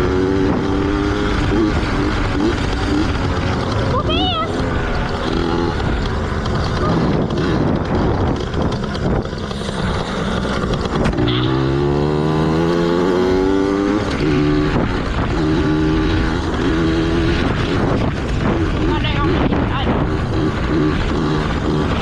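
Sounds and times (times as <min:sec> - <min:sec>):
two-stroke motorcycle engine: 0:00.0 - 0:22.0.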